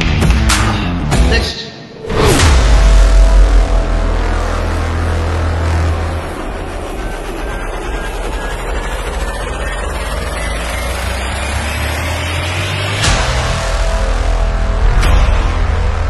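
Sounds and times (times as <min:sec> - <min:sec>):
low rumbling drone: 0:02.0 - 0:16.0
sharp hit: 0:02.0 - 0:16.0.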